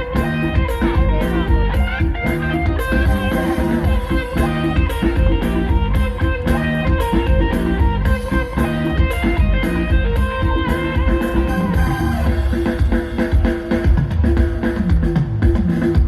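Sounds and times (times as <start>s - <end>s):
bass: 0.0s - 16.0s
electric guitar: 0.0s - 16.0s
steady drum beat: 0.0s - 16.0s.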